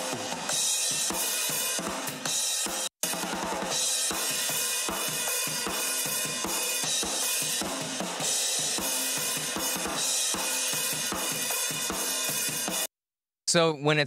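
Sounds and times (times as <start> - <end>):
hi-hats and cymbals: 0.0 - 12.9.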